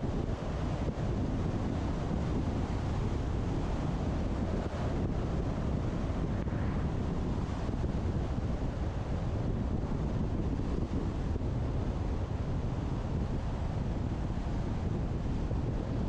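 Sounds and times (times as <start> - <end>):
wind rushing over camera: 0.0 - 16.0.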